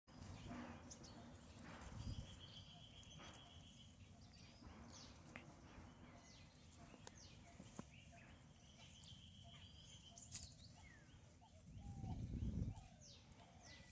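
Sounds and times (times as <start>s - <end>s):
bird chirps: 0.1s - 13.9s.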